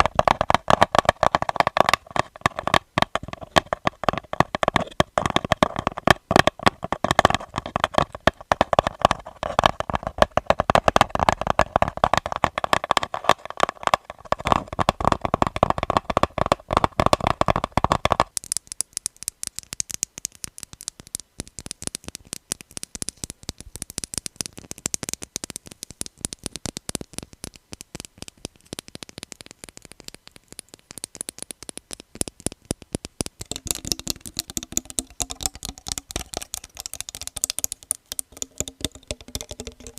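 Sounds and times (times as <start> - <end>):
fingernail tapping on objects: 0.0 - 39.9.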